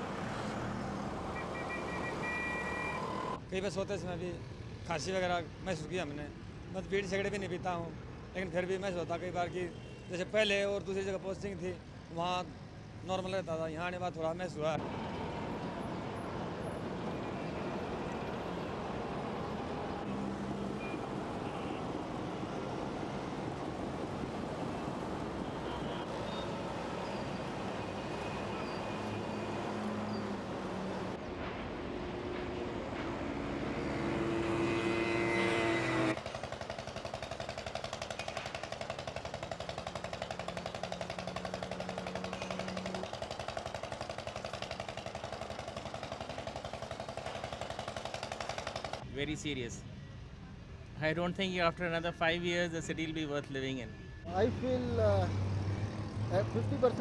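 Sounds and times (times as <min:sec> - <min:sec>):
road traffic roar: 0:00.0 - 0:57.0.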